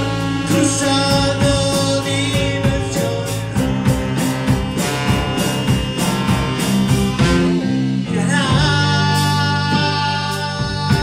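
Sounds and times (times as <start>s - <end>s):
drum kit with cymbal strikes: 0.0s - 11.0s
electric bass: 0.0s - 11.0s
saxophone: 0.0s - 11.0s
trombone: 0.0s - 11.0s.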